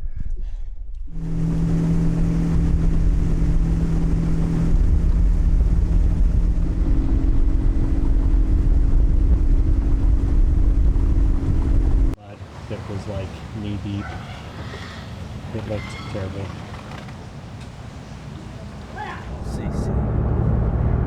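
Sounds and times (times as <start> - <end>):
outboard motor running: 1.1 - 19.9.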